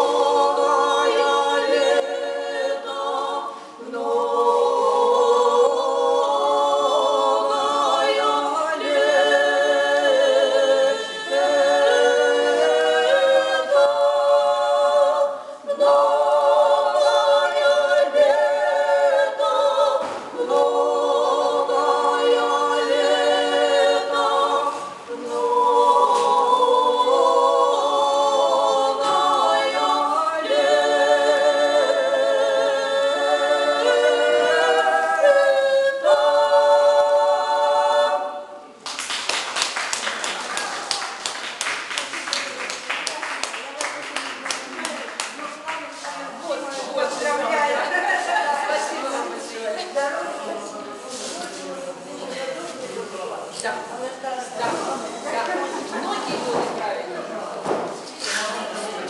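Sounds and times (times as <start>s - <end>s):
women singing a cappella: 0.0s - 38.8s, 44.5s - 59.0s.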